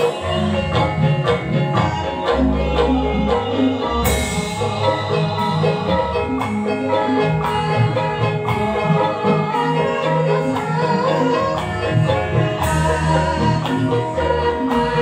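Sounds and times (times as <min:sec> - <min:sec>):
drum beats: 0:00.0 - 0:15.0
gamelan metallophones ringing: 0:00.0 - 0:15.0.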